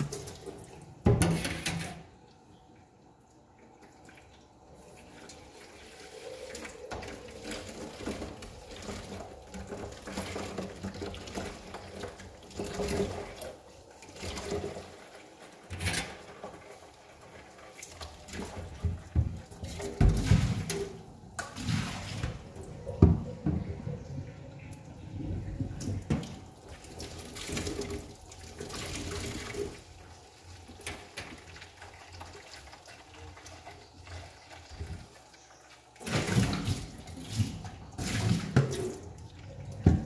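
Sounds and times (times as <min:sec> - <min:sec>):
tap water running into sink: 0:05.0 - 0:23.8, 0:25.4 - 0:40.0.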